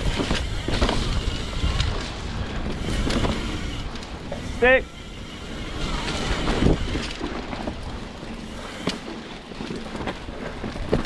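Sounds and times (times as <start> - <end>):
bike knocks and rattles: 0.0 - 11.0
bike tyres rolling over dirt: 0.0 - 11.0
wind on microphone: 0.0 - 11.0.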